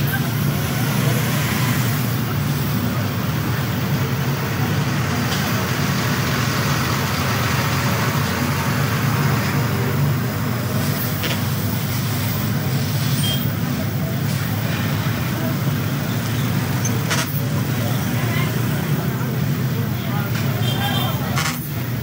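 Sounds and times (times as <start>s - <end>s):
trucks passing on highway: 0.0s - 22.0s.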